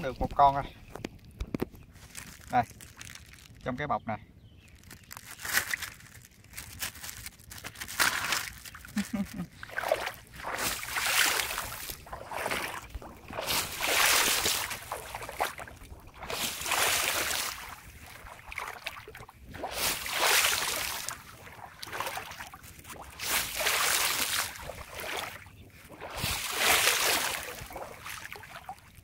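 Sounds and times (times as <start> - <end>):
legs sloshing through water: 4.7 - 29.0.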